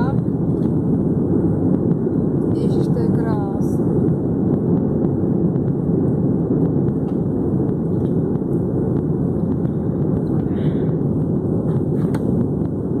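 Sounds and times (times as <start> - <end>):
airliner engine rumble in cabin: 0.0 - 13.0.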